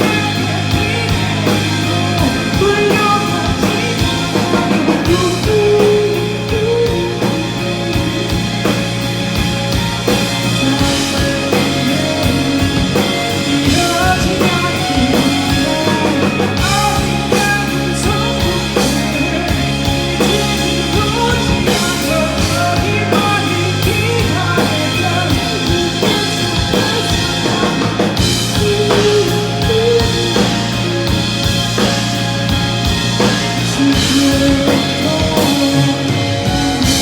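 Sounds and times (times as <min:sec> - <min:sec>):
live rock band instrumental: 0:00.0 - 0:37.0.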